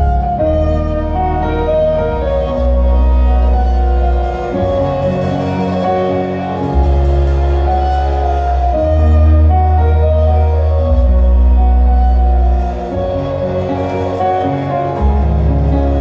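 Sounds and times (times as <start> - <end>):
bowed violin melody: 0.0 - 16.0
deep bass notes: 0.0 - 16.0
keyboards: 0.0 - 16.0.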